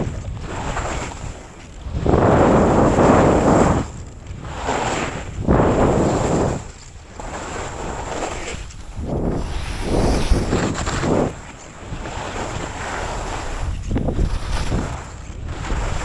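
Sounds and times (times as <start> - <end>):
skis carving on snow: 0.0 - 16.0
wind on microphone: 0.0 - 16.0.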